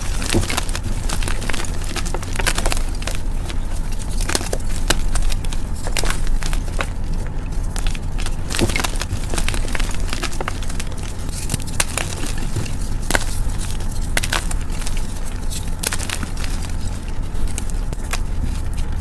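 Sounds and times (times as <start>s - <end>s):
chalk being crushed: 0.0s - 19.0s
low hum: 0.0s - 19.0s.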